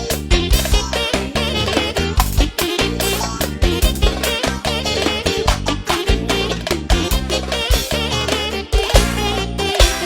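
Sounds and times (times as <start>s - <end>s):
bass and drum beat: 0.0s - 10.0s
ornamented lead melody: 0.0s - 10.0s.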